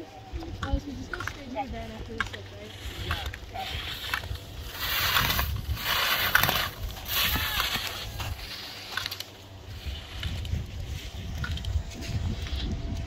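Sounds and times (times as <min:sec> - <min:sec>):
skis scraping on snow: 0:01.5 - 0:12.8.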